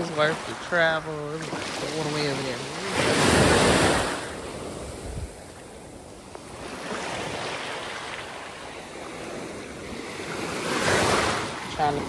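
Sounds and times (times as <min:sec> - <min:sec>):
ocean surf washing onto beach: 0:00.0 - 0:12.0
wind on microphone: 0:00.0 - 0:12.0.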